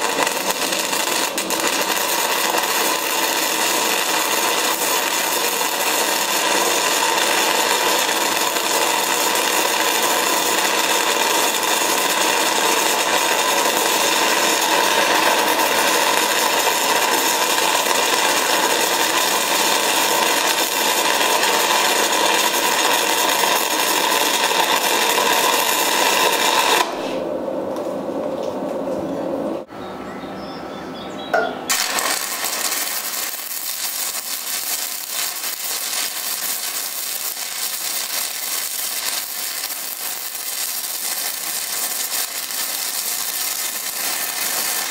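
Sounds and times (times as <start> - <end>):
welding arc crackling: 0.0 - 27.2, 31.7 - 44.9.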